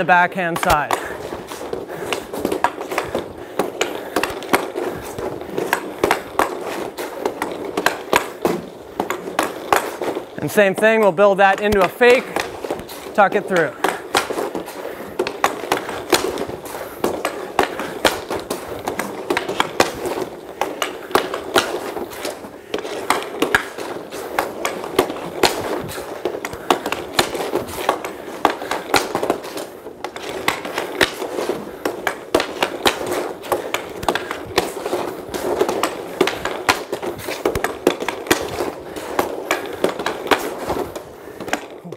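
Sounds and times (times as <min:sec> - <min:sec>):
hockey stick clicking puck: 0:00.0 - 0:41.9
ice skate blades scraping: 0:00.0 - 0:41.9.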